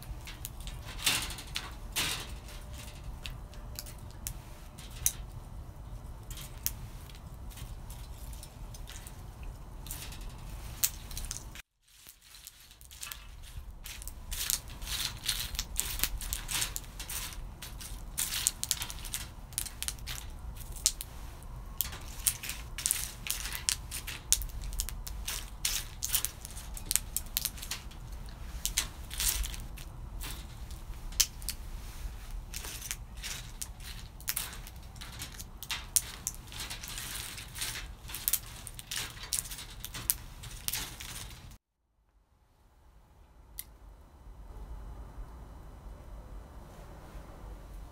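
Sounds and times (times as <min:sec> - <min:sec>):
roasted beans cracking: 0:00.0 - 0:41.6.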